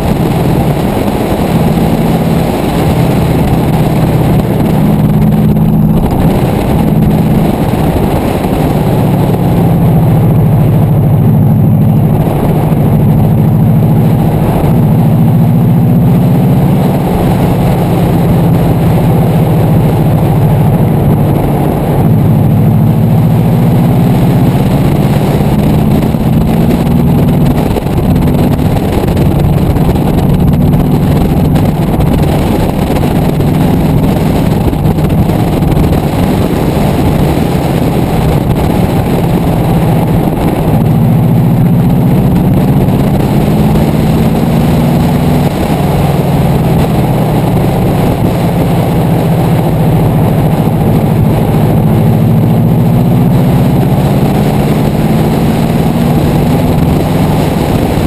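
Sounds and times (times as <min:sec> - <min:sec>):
rally car engine revving: 0:00.0 - 0:58.0
tyre and wind noise: 0:00.0 - 0:58.0.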